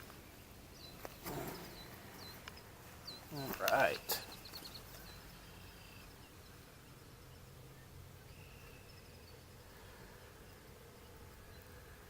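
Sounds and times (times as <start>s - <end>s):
distant bird chirps: 0.0s - 12.0s
low steady background: 0.0s - 12.0s.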